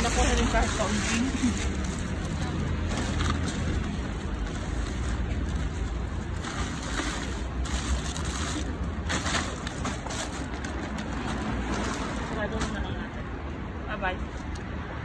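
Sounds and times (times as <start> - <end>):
plastic bags crackling: 0.0 - 13.1.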